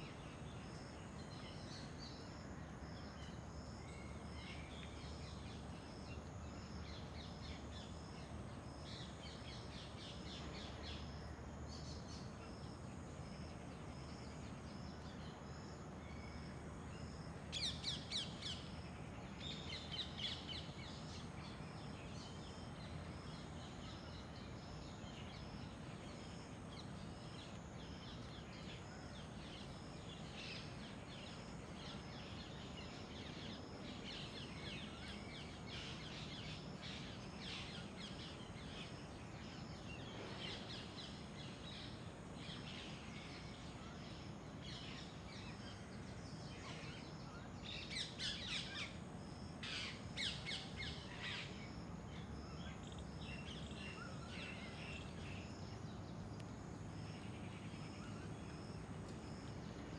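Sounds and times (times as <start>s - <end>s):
faint outdoor hiss: 0.0s - 59.9s.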